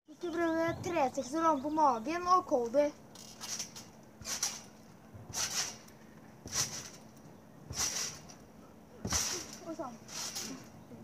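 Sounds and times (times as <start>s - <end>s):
trampoline springs bouncing: 0.3s - 11.0s.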